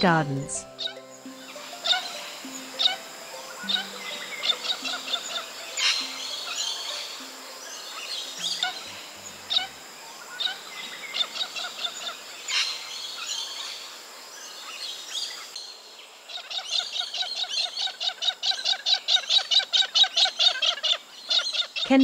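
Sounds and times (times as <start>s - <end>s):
cockatoos calling: 0.0s - 14.0s, 16.3s - 22.0s.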